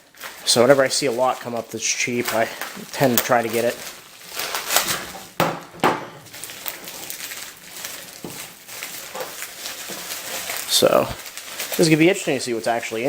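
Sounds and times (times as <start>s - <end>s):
packaging rustling and scraping: 0.0s - 5.4s, 6.2s - 13.0s.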